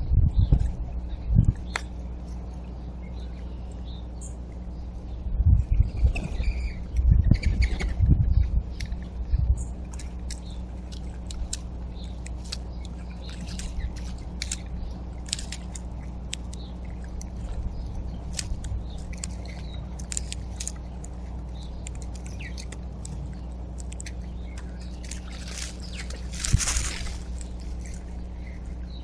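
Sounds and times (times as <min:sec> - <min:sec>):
low hum: 0:00.0 - 0:29.0
birds chip calls: 0:00.2 - 0:29.0.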